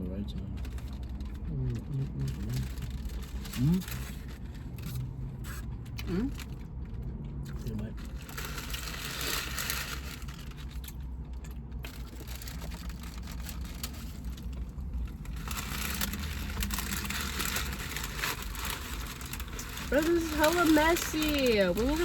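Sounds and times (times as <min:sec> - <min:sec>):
crackling and rustling of sandwiches: 0:00.3 - 0:22.0.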